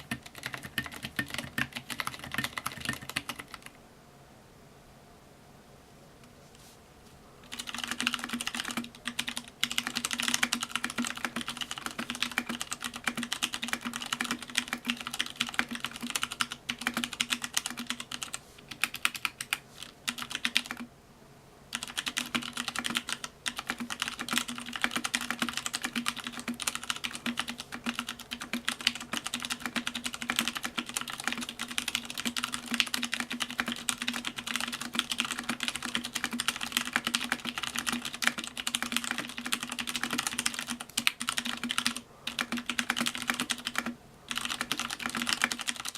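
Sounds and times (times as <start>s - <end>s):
mechanical keyboard typing: 0.0s - 3.8s, 7.4s - 20.9s, 21.7s - 45.9s.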